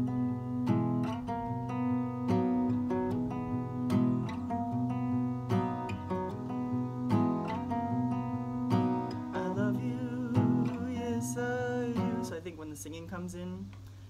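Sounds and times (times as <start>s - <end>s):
fingerpicked acoustic guitar: 0.0s - 14.0s.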